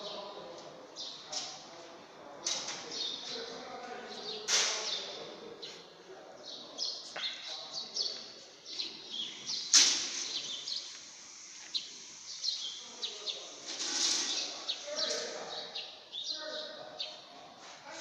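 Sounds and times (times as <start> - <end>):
small birds chirping: 0.0 - 1.8, 2.4 - 17.5.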